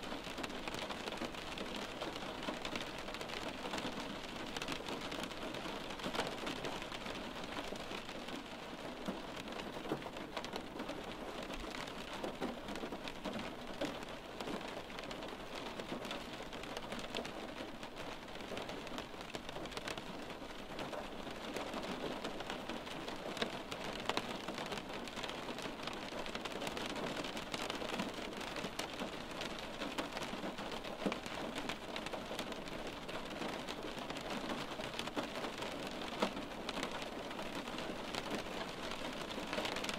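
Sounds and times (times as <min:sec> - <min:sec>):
steady rain: 0:00.0 - 0:39.9
raindrops tapping on window glass: 0:00.1 - 0:39.9.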